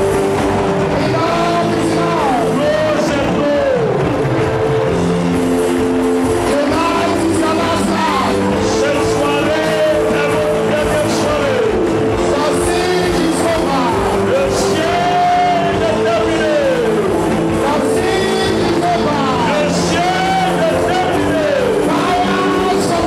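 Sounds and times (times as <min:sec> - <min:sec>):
congregation singing: 0:00.0 - 0:04.1, 0:06.5 - 0:23.0.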